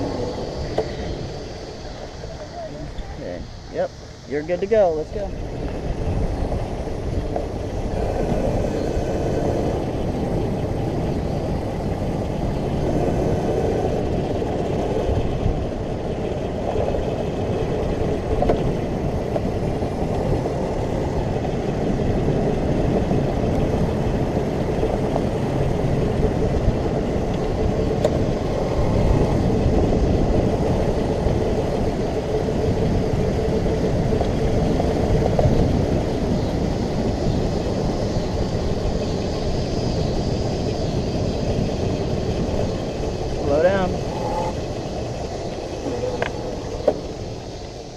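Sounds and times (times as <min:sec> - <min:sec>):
toy car wheels rumbling: 0:04.4 - 0:47.9.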